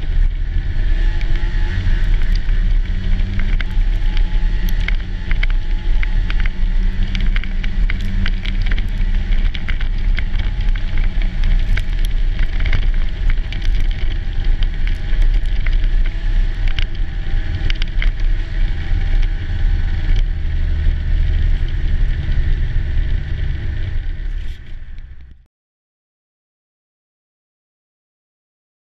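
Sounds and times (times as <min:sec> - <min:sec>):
snow spray ticking on camera: 0:00.0 - 0:25.3
snowmobile engine running: 0:00.0 - 0:25.4.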